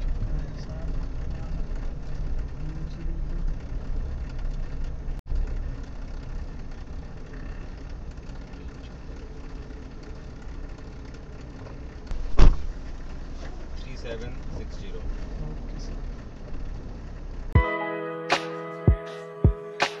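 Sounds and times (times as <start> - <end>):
car engine running low: 0.0 - 17.6.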